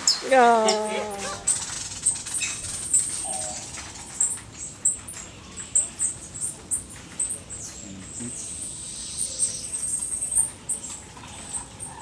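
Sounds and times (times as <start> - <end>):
hummingbird high-pitched chips: 0.1 - 12.0.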